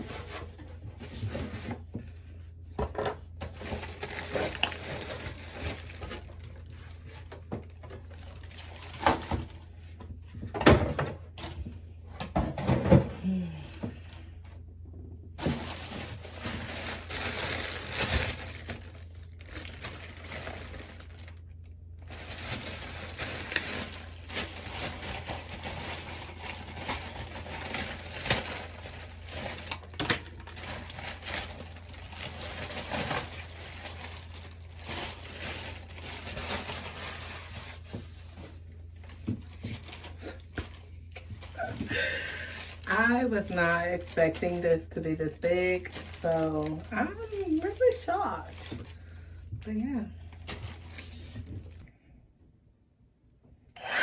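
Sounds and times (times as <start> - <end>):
plastic and cardboard crinkling: 0.0 - 14.6, 15.3 - 51.9.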